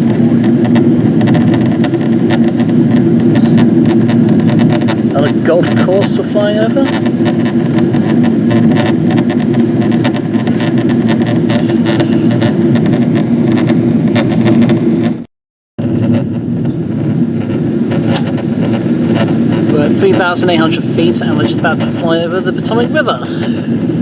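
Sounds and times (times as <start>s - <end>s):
aircraft cabin engine drone: 0.0s - 24.0s.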